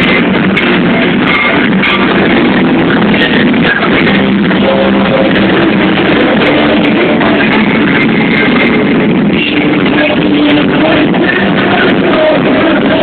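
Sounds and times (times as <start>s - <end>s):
drum kit: 0.0s - 13.0s
electric guitar: 0.0s - 13.0s
live rock band playing: 0.0s - 13.0s.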